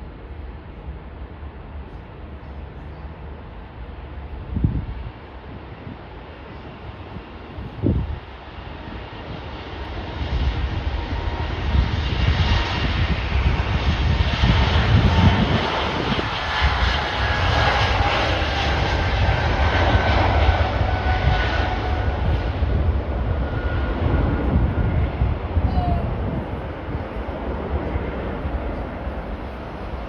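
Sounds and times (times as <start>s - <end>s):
jet engines rumble and whine: 0.0s - 30.0s.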